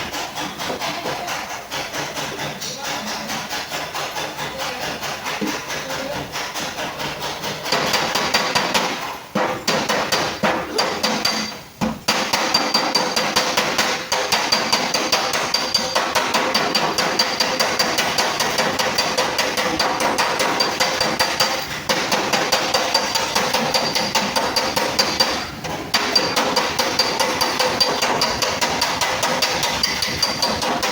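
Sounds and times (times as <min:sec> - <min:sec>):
hammer tapping on sheet metal: 0:00.0 - 0:30.9.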